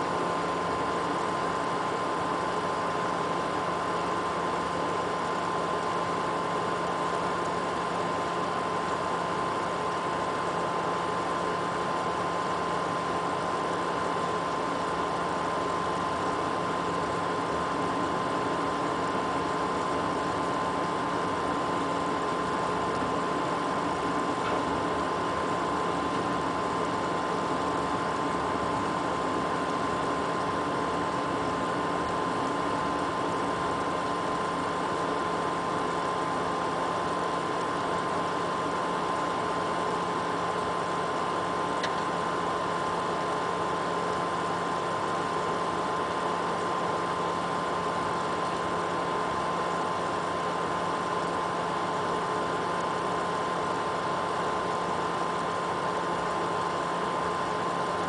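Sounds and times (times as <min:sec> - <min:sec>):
water pump whining: 0:00.0 - 0:58.0.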